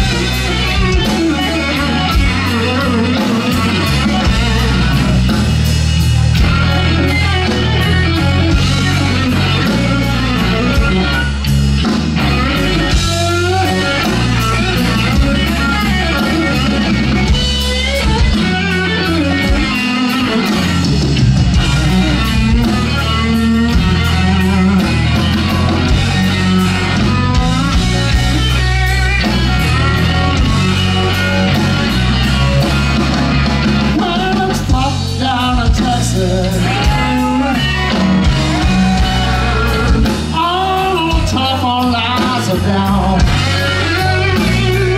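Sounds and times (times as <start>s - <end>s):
bass guitar: 0.0s - 44.9s
drum kit: 0.0s - 44.9s
electric guitar lead with bent notes: 0.0s - 44.9s.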